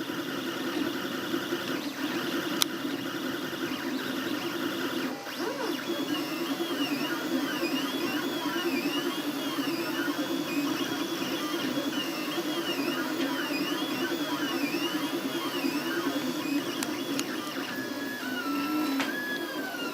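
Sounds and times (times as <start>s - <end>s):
stepper motors whining: 0.0s - 19.9s.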